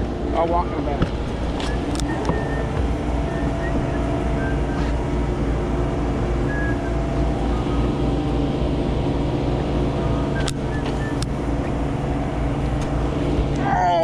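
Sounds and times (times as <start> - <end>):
boat motor droning: 0.0 - 14.0.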